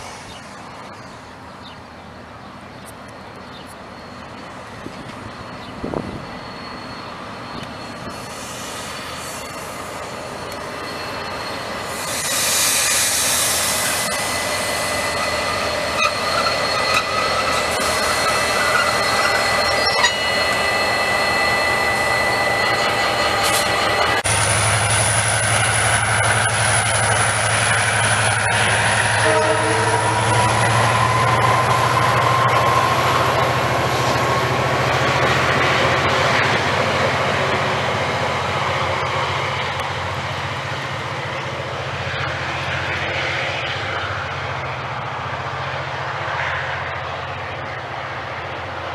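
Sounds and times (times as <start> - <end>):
locomotive diesel engine: 0.0 - 48.9
train wheels squealing: 2.8 - 47.9.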